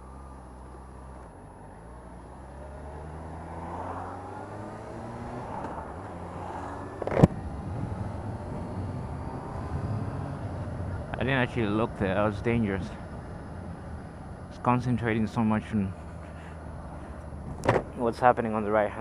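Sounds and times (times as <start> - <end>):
motorcycle engine revving: 0.0 - 18.0
road noise: 0.0 - 19.0.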